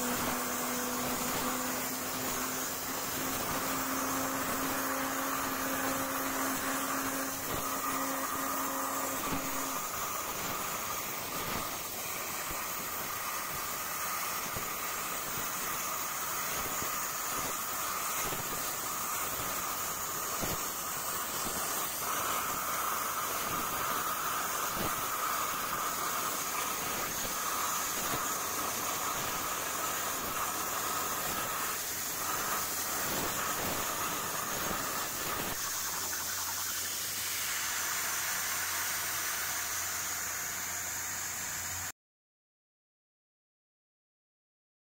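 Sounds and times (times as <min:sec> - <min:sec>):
plasma arc crackles: 0:00.0 - 0:41.9
plasma torch hissing: 0:00.0 - 0:41.9.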